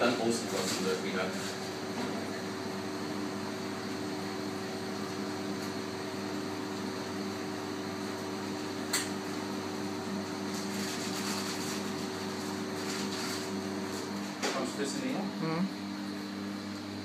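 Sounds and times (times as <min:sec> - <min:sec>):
machine electric hum: 0:00.0 - 0:17.0.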